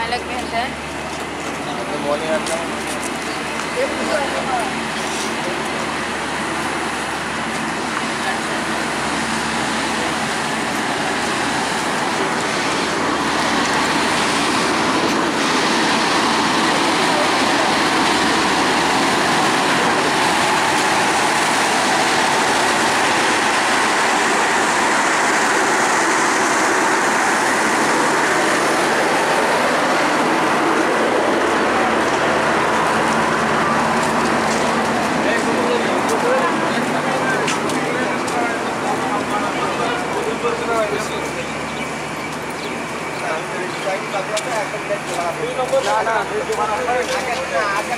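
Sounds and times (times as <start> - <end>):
diesel train running: 0.0 - 47.9.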